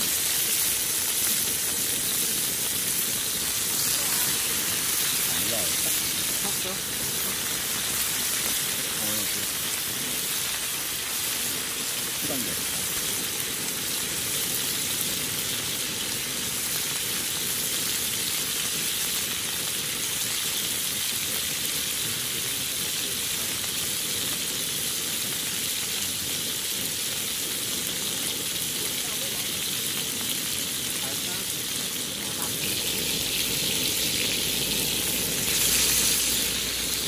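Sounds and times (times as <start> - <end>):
steaks sizzling in hot oil: 0.0 - 37.0.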